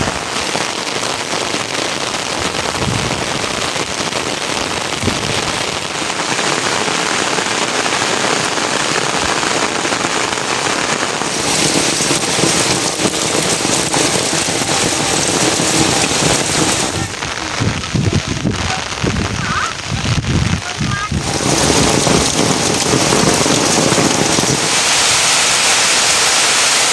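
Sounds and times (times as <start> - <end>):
heavy rain pattering: 0.0 - 26.9.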